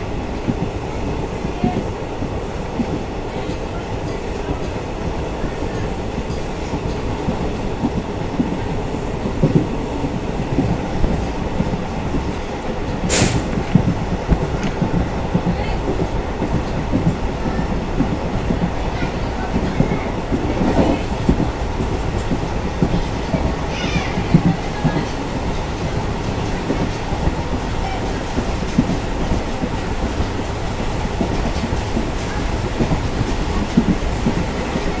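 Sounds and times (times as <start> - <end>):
train rumbling on track: 0.0 - 35.0.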